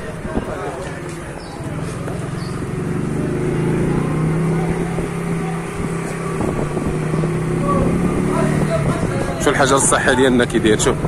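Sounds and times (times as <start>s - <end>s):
scooter engine humming: 0.0s - 11.0s.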